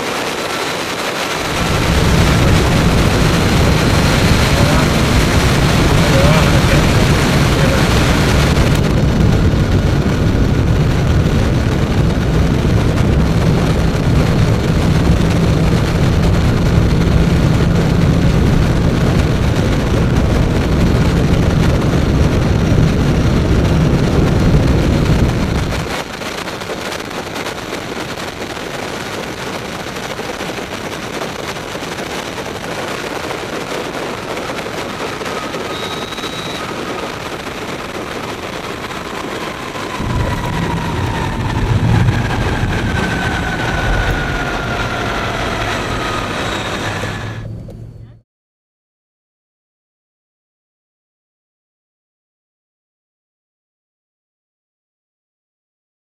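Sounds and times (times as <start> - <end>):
wind buffeting microphone: 0.0 - 48.0
road rumble: 0.0 - 48.2.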